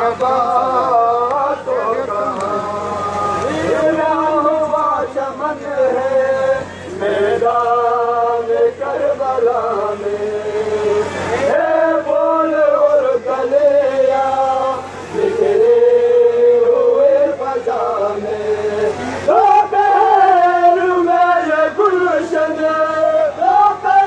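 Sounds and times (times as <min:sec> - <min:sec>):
men chanting over loudspeakers: 0:00.0 - 0:24.0.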